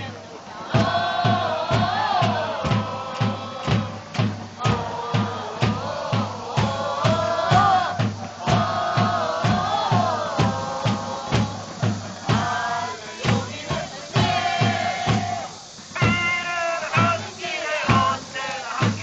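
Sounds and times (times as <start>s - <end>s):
bass drum beating: 0.0s - 19.0s
crowd chanting in unison: 0.0s - 19.0s.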